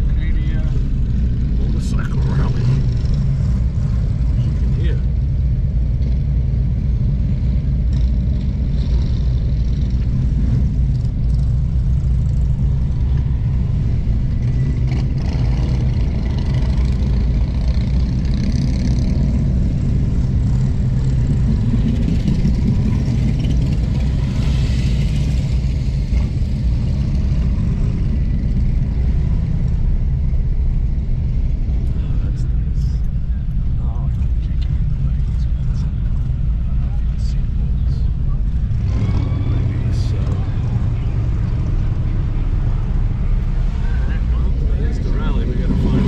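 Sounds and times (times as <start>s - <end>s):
motorcycle engines rumbling: 0.0s - 46.0s.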